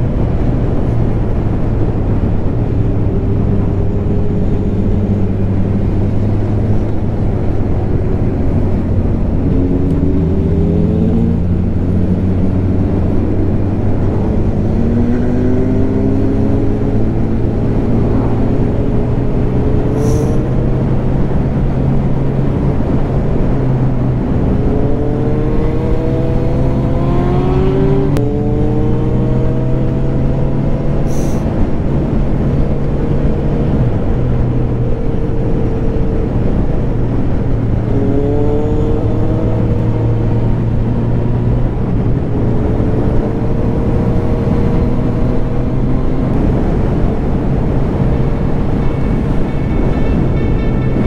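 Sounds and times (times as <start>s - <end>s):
motorcycle engine accelerating: 0.0s - 51.0s
wind and road noise: 0.0s - 51.0s.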